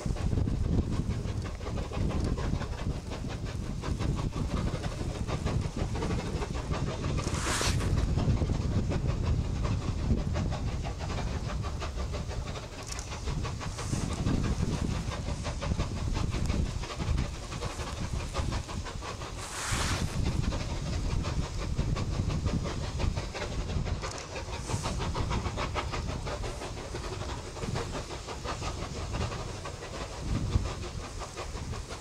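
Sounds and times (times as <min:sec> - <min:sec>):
short steam hiss: 0:00.0 - 0:32.0
steam locomotive exhaust beats: 0:00.0 - 0:32.0.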